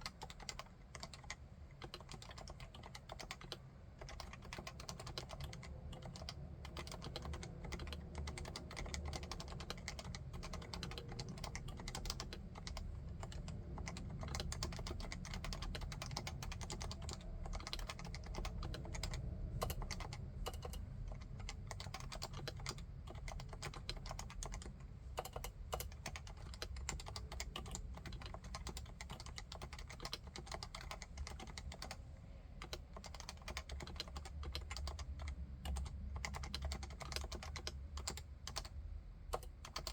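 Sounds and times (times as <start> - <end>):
keyboard typing: 0.0 - 32.0, 32.6 - 38.7, 39.3 - 39.9.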